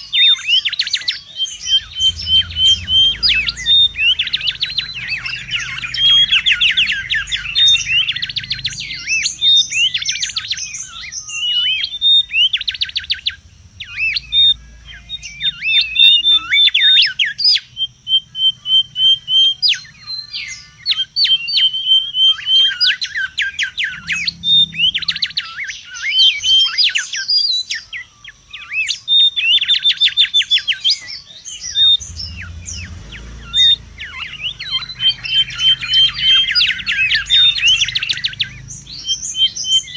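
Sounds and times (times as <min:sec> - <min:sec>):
bird piping notes: 0:00.0 - 0:39.9
birds whistling calls: 0:00.0 - 0:39.9
faint low rumble: 0:00.7 - 0:20.9, 0:23.0 - 0:26.8, 0:31.8 - 0:39.9.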